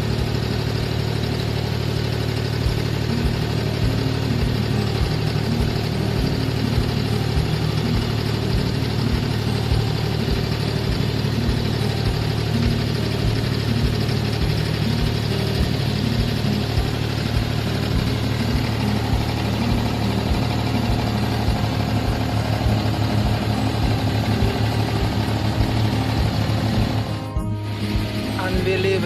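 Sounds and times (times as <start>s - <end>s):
boat diesel engine droning: 0.0s - 29.0s.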